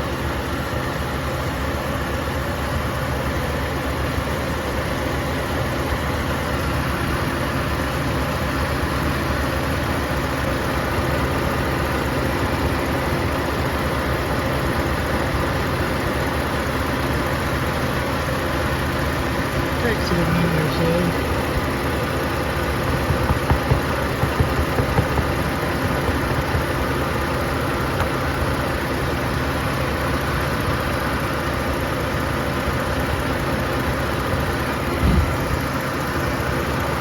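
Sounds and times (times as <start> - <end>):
air conditioning running: 0.0 - 37.0
car engine idling: 0.0 - 37.0.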